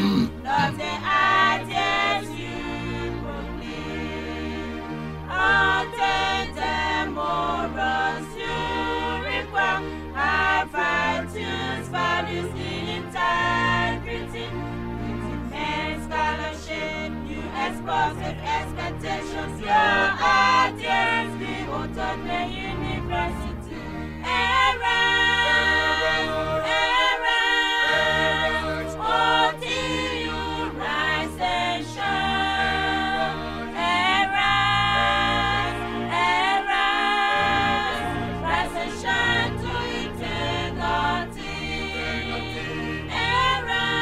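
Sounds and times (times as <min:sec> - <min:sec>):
bass accompaniment: 0:00.0 - 0:44.0
choir singing: 0:00.0 - 0:44.0.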